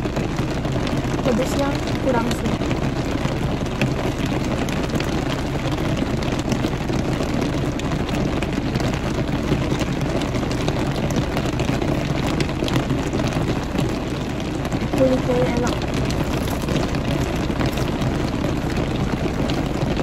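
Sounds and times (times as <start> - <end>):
low car hum: 0.0 - 20.0
rain on car roof: 0.0 - 20.0.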